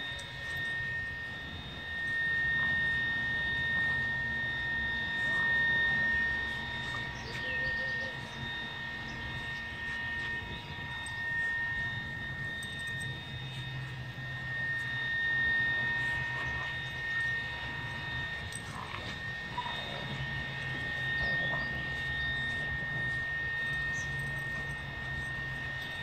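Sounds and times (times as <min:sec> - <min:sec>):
machine hum and high whine: 0:00.0 - 0:26.0.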